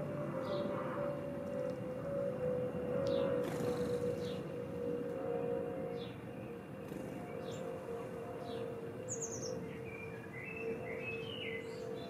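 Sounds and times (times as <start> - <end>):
songbirds chirping and twittering: 0.2 - 2.4, 3.0 - 12.0.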